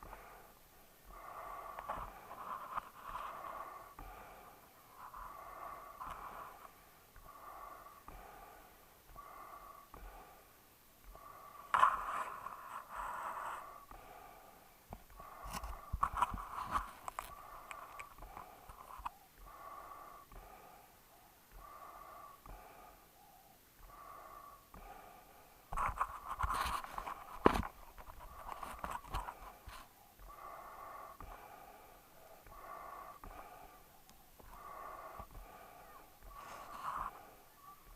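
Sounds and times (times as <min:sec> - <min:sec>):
dog breathing through its nose: 0:00.0 - 0:37.9.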